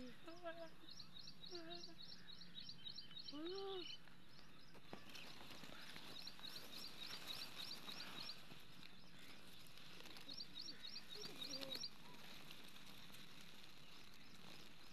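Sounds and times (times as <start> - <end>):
small bird chirping: 0.0 - 14.9.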